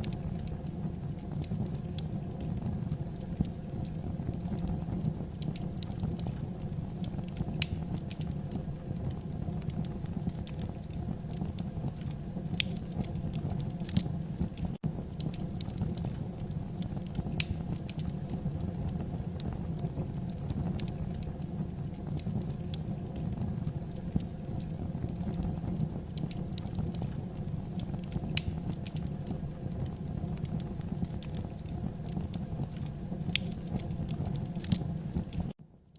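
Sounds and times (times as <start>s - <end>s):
wood fire crackling and popping: 0.0s - 35.6s.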